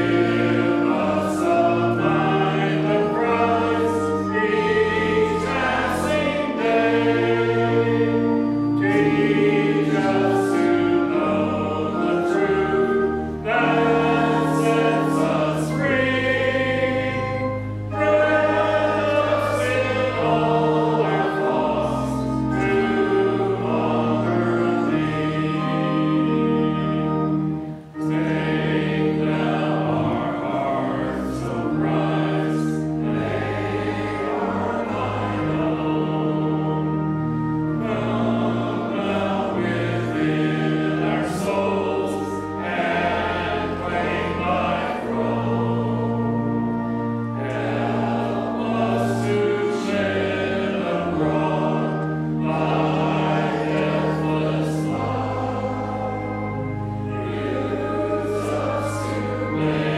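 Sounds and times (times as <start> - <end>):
congregation singing a hymn: 0.0 - 59.9
held instrumental chords: 0.0 - 59.9.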